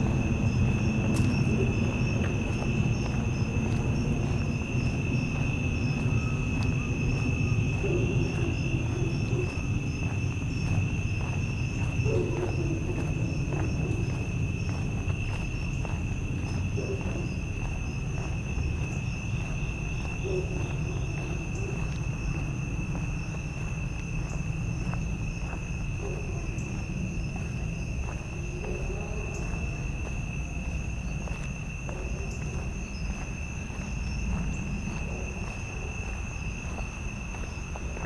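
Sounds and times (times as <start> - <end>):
crickets and insects trilling: 0.0 - 38.0.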